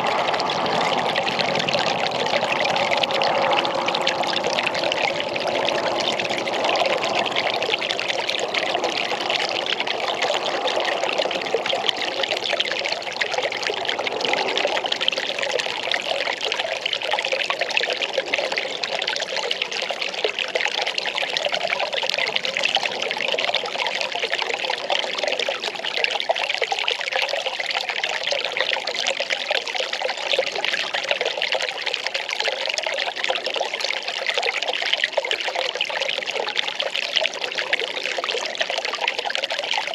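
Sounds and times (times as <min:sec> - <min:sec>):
water pouring and splashing: 0:00.0 - 0:39.9.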